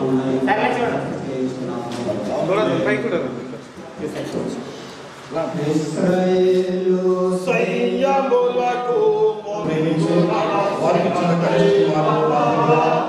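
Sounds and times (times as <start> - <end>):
voices singing a hymn: 0.0 - 2.8, 5.3 - 13.0.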